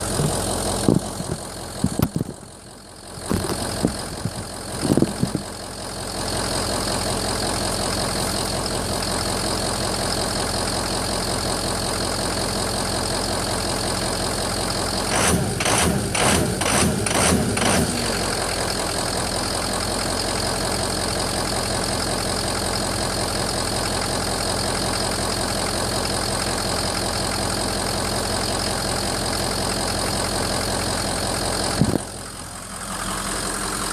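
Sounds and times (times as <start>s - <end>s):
diesel engine idling rough: 0.0s - 33.9s.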